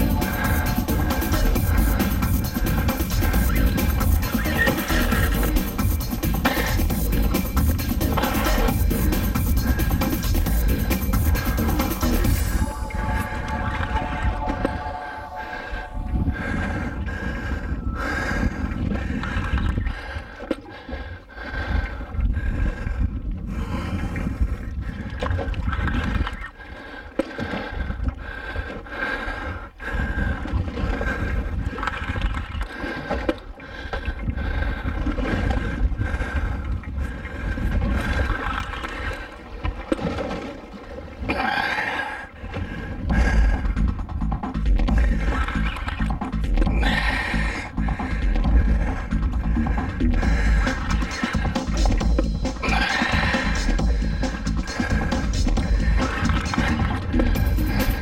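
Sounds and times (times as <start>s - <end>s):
wind buffeting microphone: 0.0s - 20.4s, 21.4s - 26.6s, 27.7s - 41.4s, 42.3s - 58.0s
boat engine droning: 0.0s - 22.0s, 33.0s - 58.0s.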